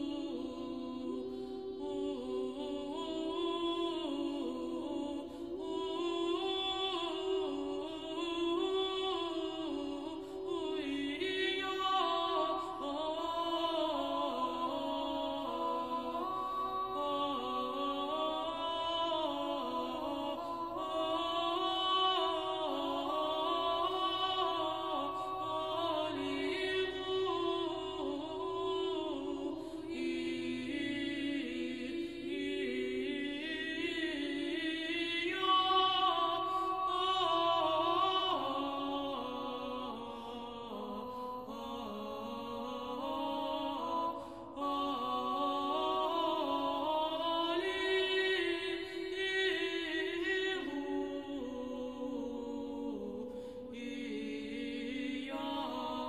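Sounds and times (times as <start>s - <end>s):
low held vocal drone: 0.0s - 56.0s.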